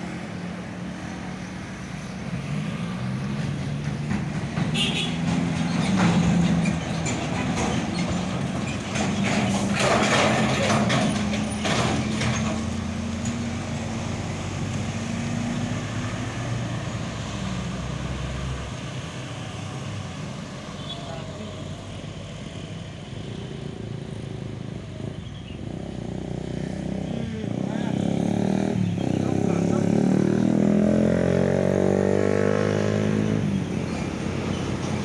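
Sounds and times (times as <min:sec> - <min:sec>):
diesel truck engine passing: 0:00.0 - 0:35.0.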